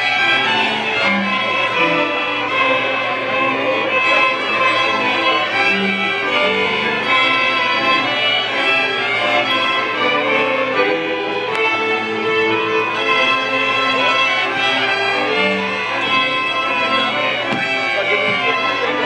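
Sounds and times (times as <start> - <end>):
violins playing folk tune: 0.0 - 19.0.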